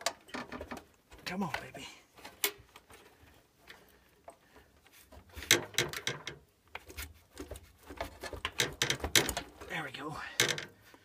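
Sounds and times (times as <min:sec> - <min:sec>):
clicks knocks and rattles of parts: 0:00.0 - 0:09.7, 0:10.4 - 0:10.8.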